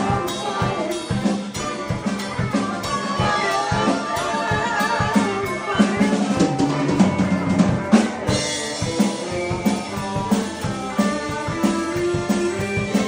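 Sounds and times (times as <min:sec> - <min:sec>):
bass guitar: 0:00.0 - 0:13.0
electric guitar: 0:00.0 - 0:13.0
steady drum beat: 0:00.0 - 0:13.0.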